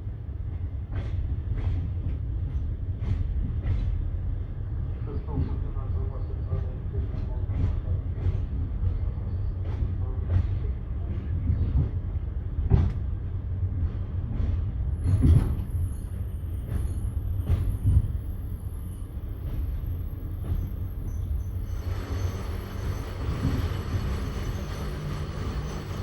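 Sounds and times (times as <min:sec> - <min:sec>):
train knocks and clanks: 0:00.0 - 0:26.0
train low rumble: 0:00.0 - 0:26.0.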